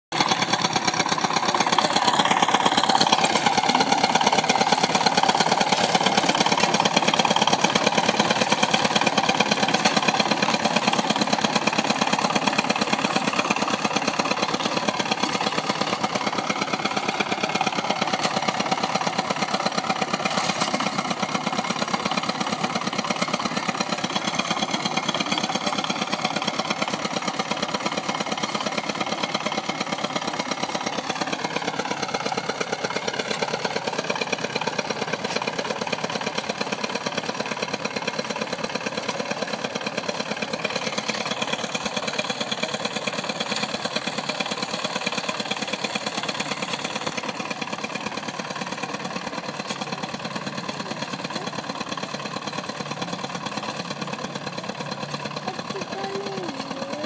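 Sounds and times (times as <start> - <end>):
diesel engine chugging: 0.1 - 57.0.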